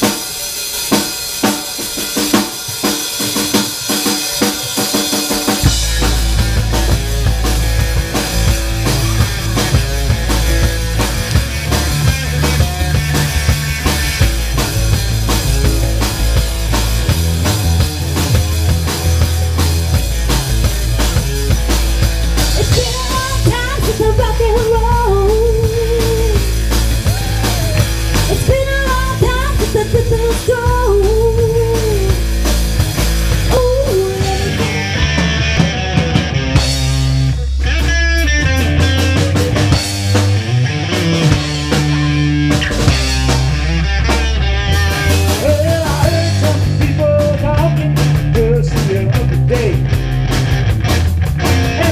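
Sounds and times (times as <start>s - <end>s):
rock music: 0.0s - 51.9s.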